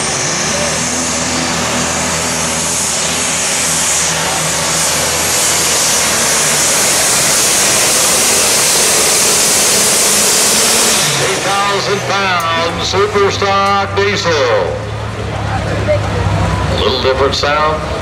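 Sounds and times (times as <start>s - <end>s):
tractor engine and turbo scream: 0.0s - 18.0s.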